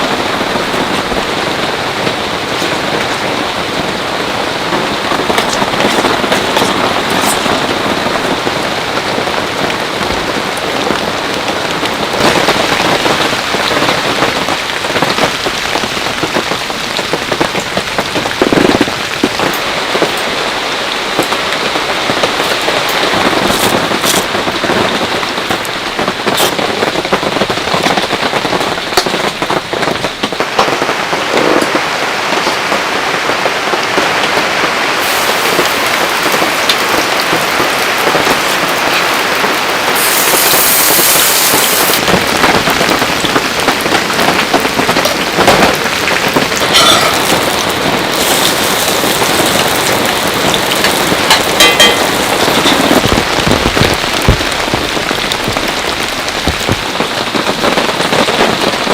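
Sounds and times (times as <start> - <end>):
heavy rain falling: 0.0 - 58.9
raindrops striking a surface: 0.0 - 58.9.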